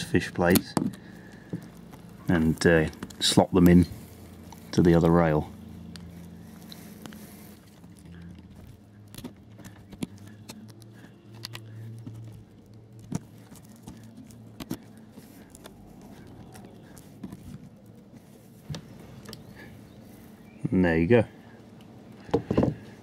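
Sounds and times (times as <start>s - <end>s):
low steady hum: 0.0s - 23.0s
quiet handling noise: 0.0s - 23.0s.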